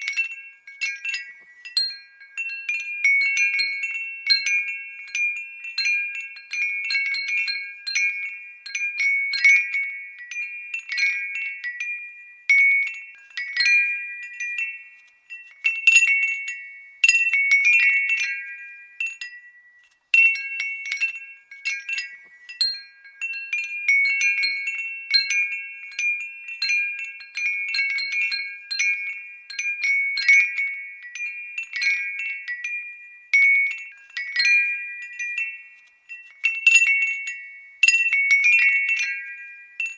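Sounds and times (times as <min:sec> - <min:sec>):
glass wind bell tinkling: 0:00.0 - 0:39.9.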